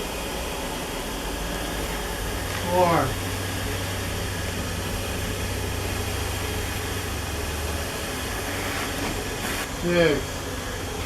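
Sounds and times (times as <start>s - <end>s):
vacuum running: 0.0s - 11.0s.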